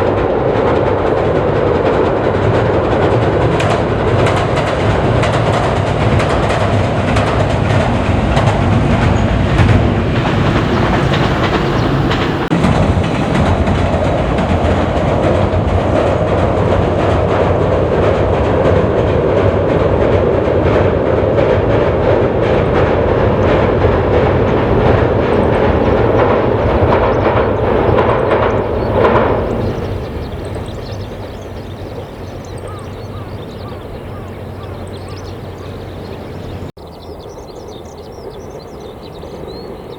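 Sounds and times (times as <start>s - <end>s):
train wheels clicking over rail joints: 0.0s - 36.7s
train rumble: 0.0s - 39.9s.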